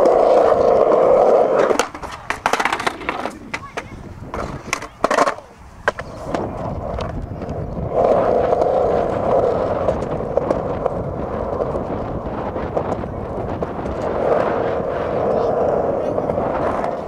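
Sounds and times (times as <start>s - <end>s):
skateboard clicks and knocks: 0.0s - 17.0s
skateboard wheels rolling on concrete: 0.0s - 17.0s.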